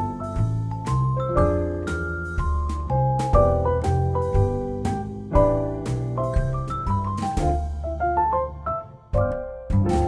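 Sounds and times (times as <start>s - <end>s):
steady bass: 0.0s - 8.6s, 9.2s - 10.0s
mellow keyboard notes: 0.0s - 10.0s.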